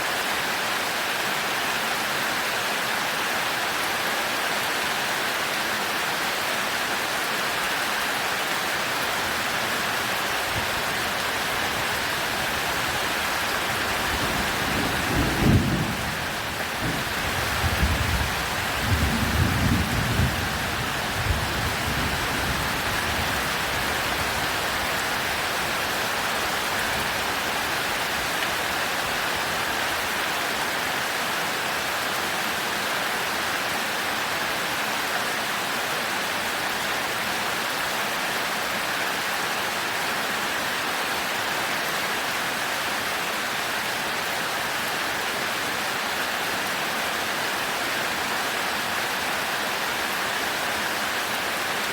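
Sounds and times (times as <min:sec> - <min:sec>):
heavy rain on a thatched roof: 0:00.0 - 0:51.9.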